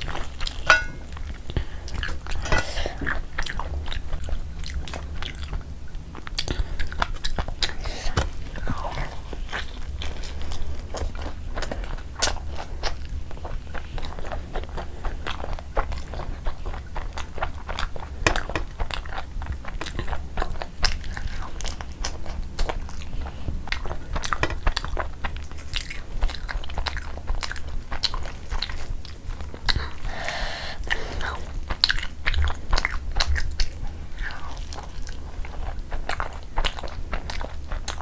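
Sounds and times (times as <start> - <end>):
wet chewing and smacking: 0.0 - 30.2, 30.8 - 38.0
low steady hum: 0.0 - 38.0.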